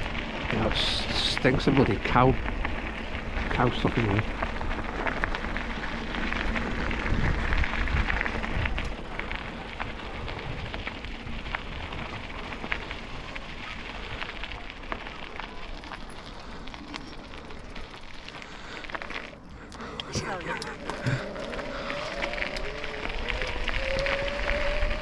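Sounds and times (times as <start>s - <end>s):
wind rumble on microphone: 0.0s - 18.4s, 20.4s - 25.0s
steady crackling with sharp clicks: 0.0s - 25.0s.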